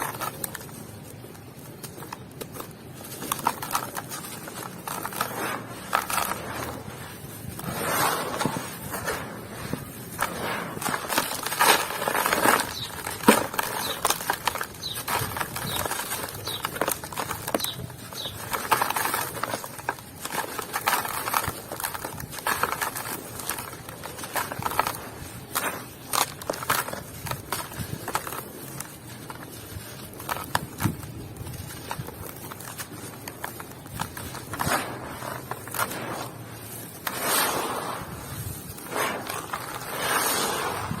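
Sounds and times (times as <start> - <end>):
dry clumps crunching: 0.0 - 41.0.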